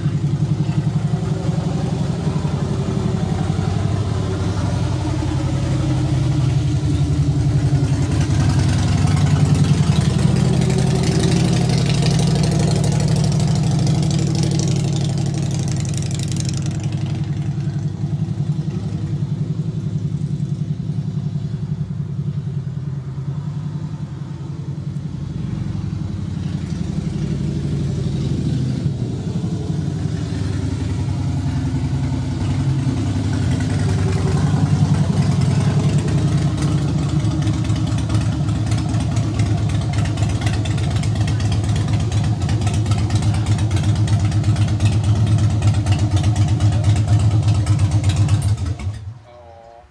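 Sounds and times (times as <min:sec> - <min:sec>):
motorcycle engine passing: 0:00.0 - 0:49.6.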